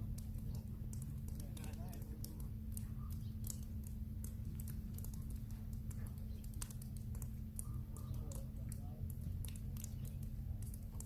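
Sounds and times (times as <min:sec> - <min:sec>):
ice ticking and crackling: 0:00.0 - 0:11.0
steady low rumble: 0:00.0 - 0:11.0.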